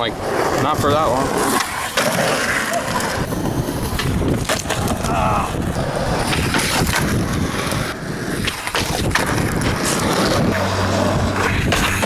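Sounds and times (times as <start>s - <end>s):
wind buffeting microphone: 0.0s - 1.6s, 2.2s - 12.0s
skateboard clacks: 0.0s - 12.0s
skateboard rolling on pavement: 0.0s - 12.0s.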